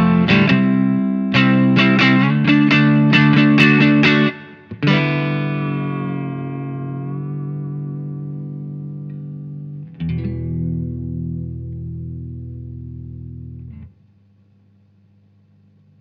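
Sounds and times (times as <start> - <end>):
electric guitar chords ringing: 0.0 - 13.9
amplifier hum and hiss: 0.0 - 16.0.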